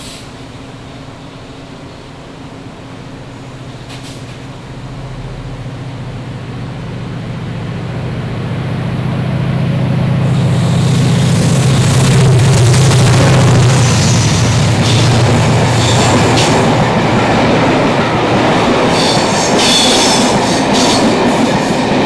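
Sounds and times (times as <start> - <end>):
diesel locomotive engine pulsing: 0.0 - 22.0
train rushing noise: 0.0 - 22.0.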